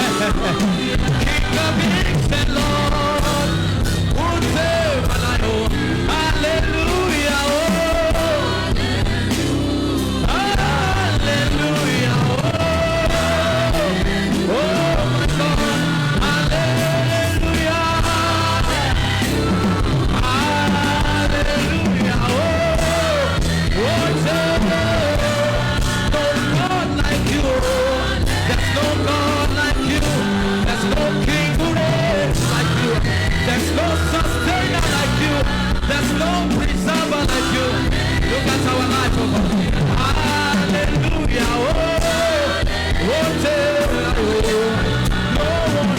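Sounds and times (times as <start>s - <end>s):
band playing worship music: 0.0s - 45.9s
people singing: 0.0s - 45.9s.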